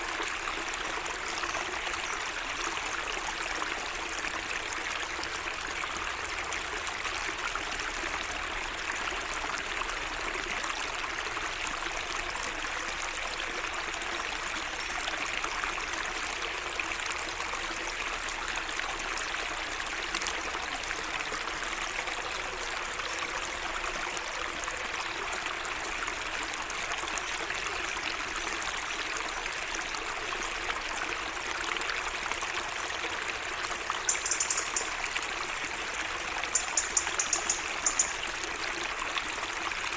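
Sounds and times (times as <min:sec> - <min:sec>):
water trickling in waterway: 0:00.0 - 0:39.9.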